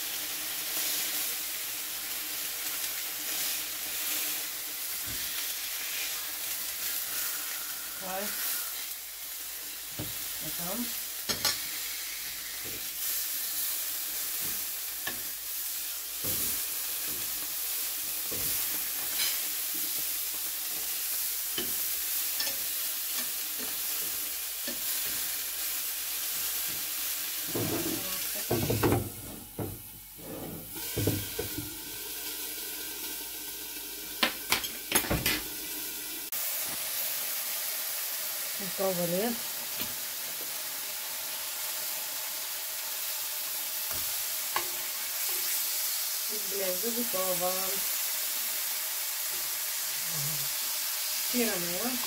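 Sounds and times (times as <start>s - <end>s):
meat sizzling in a frying pan: 0.0s - 52.0s.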